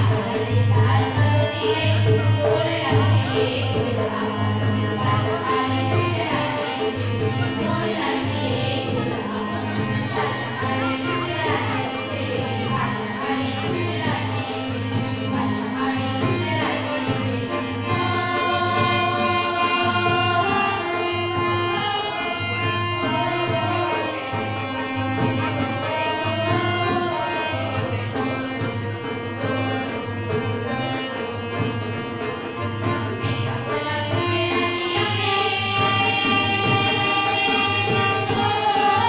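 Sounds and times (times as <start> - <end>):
song with singing over a beat: 0.0 - 39.0.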